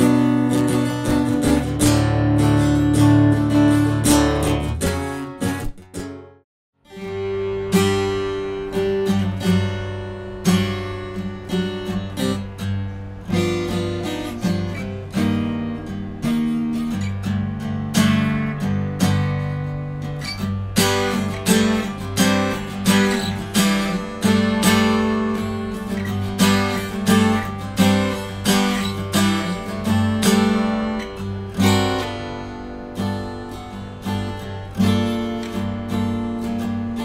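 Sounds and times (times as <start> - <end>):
acoustic guitar strumming and picking: 0.0 - 37.0.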